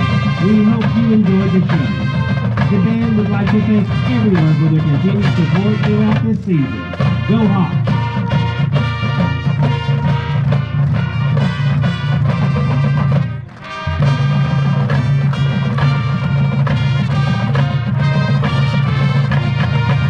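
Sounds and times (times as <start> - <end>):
upbeat music with quick beat: 0.0 - 20.0.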